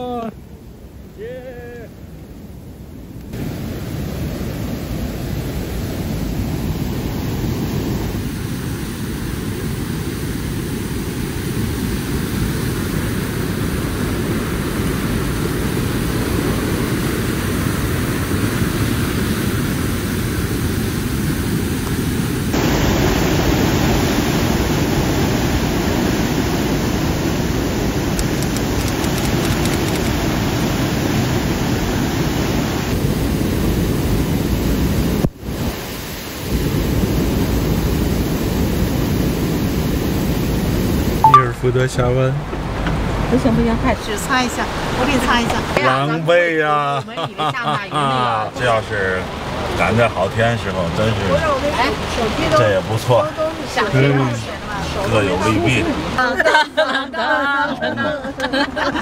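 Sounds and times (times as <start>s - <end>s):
heavy rain: 3.3s - 57.4s
rushing water: 3.3s - 59.0s.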